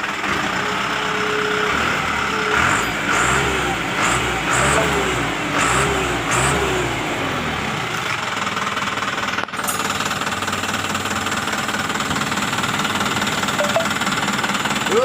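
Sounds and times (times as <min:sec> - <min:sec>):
truck diesel engine revving and idling: 0:00.0 - 0:15.0.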